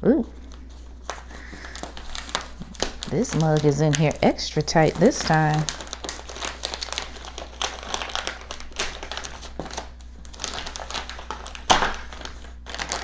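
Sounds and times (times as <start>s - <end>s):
plastic mailer crinkling: 0.3s - 13.0s.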